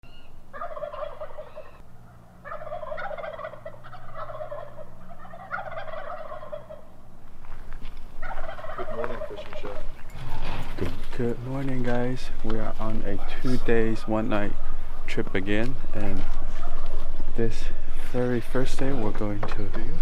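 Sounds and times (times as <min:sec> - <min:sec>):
turkeys gobbling: 0:00.0 - 0:20.0.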